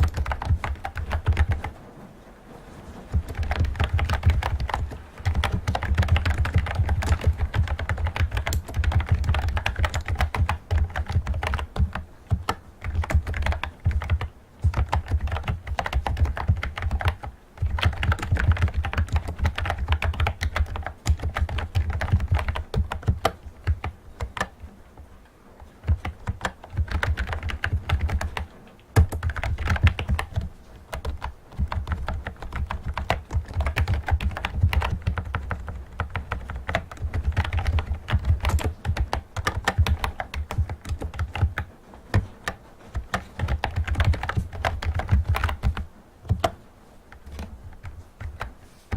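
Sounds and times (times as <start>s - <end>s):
keyboard key clicks: 0.0s - 1.7s, 3.1s - 24.6s, 25.8s - 48.6s.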